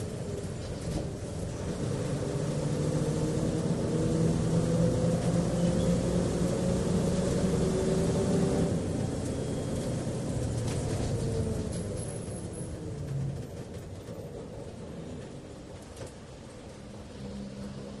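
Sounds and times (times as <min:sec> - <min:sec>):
bus engine droning: 0:00.0 - 0:18.0.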